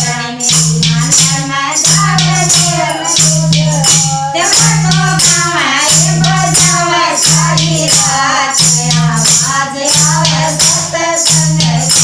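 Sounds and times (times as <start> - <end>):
jingling percussion: 0.0 - 12.0
person singing: 0.0 - 12.0.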